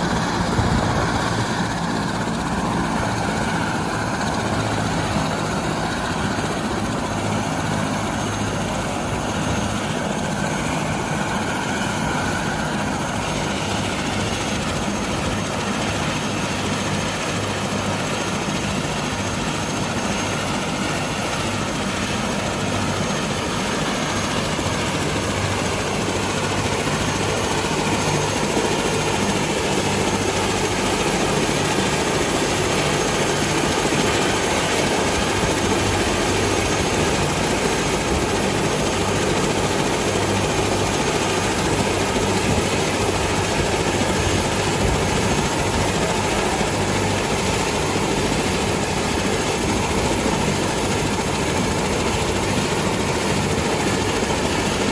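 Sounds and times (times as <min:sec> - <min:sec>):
helicopter rotor and engine drone: 0:00.0 - 0:54.9.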